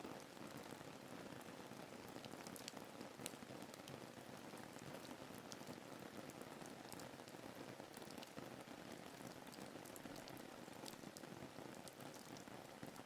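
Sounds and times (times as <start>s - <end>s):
soft steady rain: 0.0s - 13.0s.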